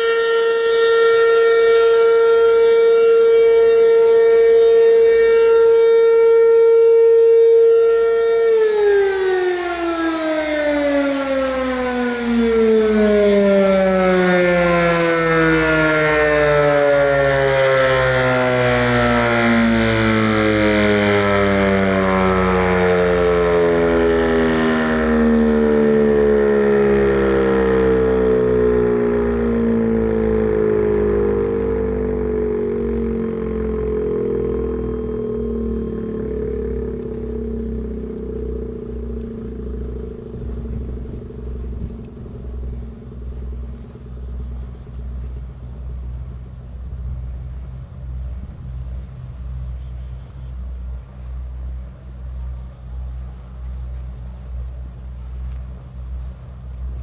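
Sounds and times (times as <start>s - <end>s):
warning siren winding down: 0.0s - 49.8s, 50.5s - 57.0s.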